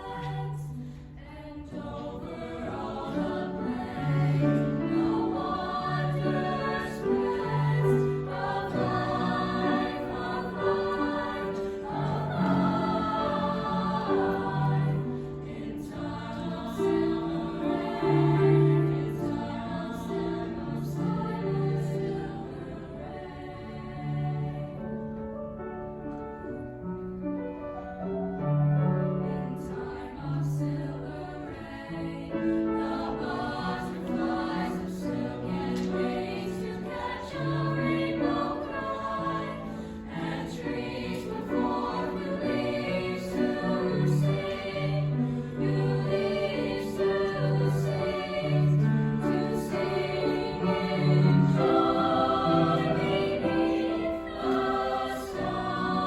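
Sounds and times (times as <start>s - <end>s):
chorus singing: 0.0s - 25.3s, 28.7s - 56.0s.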